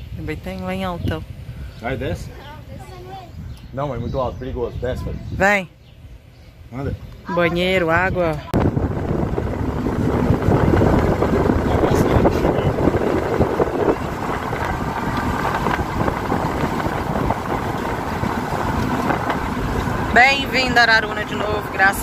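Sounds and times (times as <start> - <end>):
car road and wind noise: 0.0 - 5.6, 6.2 - 22.0
wind buffeting microphone: 0.0 - 22.0.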